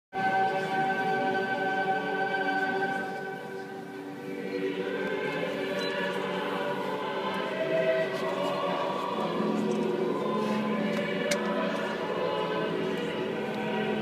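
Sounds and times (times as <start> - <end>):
choir singing held notes: 0.2 - 14.0.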